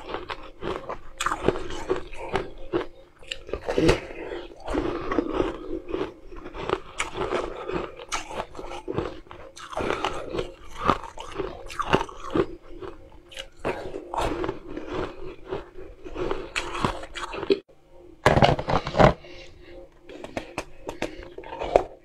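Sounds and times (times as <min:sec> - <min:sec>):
chewing ice chunks: 0:00.0 - 0:17.6, 0:20.1 - 0:22.0.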